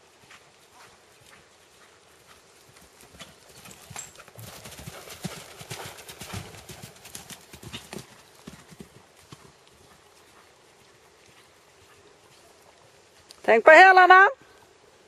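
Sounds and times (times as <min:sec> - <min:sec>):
horse hoofbeats on sand: 0:00.0 - 0:12.5.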